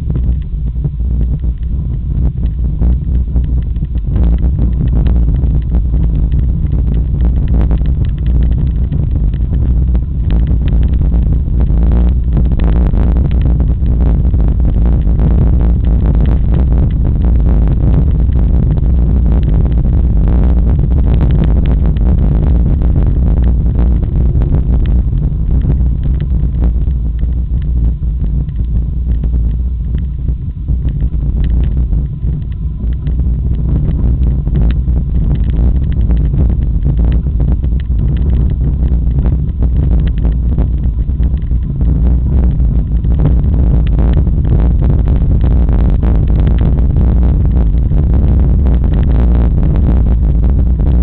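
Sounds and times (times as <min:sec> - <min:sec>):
wind rumble on microphone: 0:00.0 - 0:51.0.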